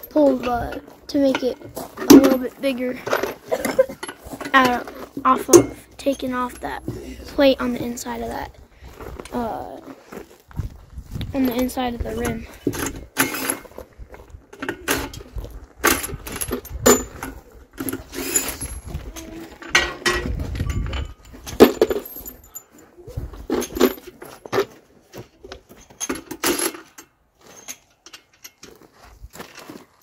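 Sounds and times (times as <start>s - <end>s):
metallic clinks of wrenches and bolts: 0.0s - 8.4s, 11.4s - 13.8s, 14.5s - 29.8s.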